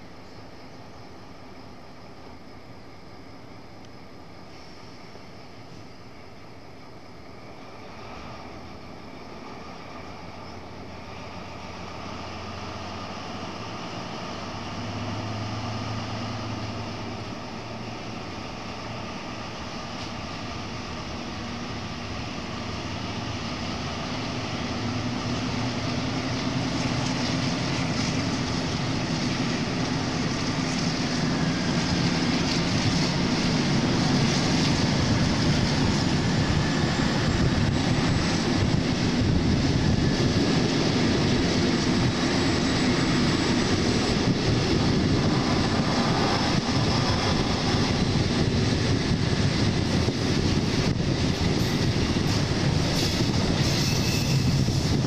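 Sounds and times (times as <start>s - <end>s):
diesel locomotive engine working hard: 0.0s - 55.0s
train running noise: 0.0s - 55.0s.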